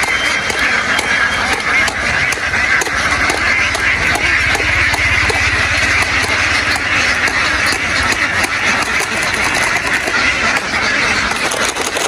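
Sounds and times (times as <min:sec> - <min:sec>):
low engine throb: 0:00.0 - 0:12.0
ducks quacking: 0:00.4 - 0:12.0.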